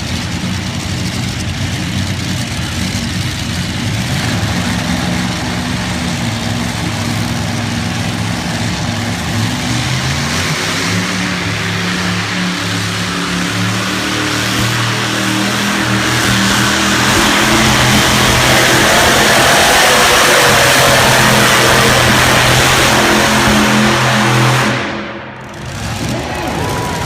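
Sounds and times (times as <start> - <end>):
tractor engine running hard: 0.0 - 27.0.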